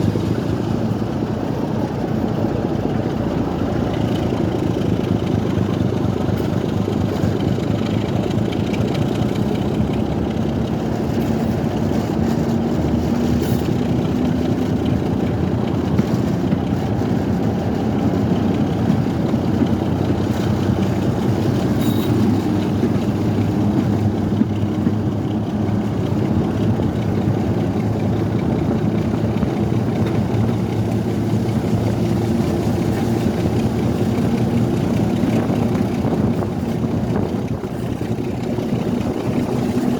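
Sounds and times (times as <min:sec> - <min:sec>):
train engine drone: 0:00.0 - 0:39.9.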